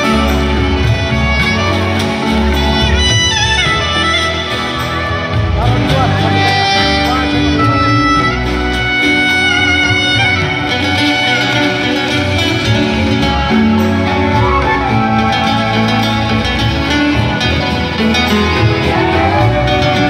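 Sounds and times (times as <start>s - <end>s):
live pop band music: 0.0s - 20.0s.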